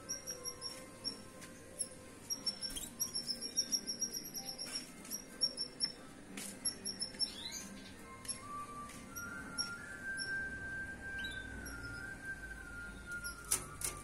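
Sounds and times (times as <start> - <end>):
canary chirping: 0.0 - 14.0.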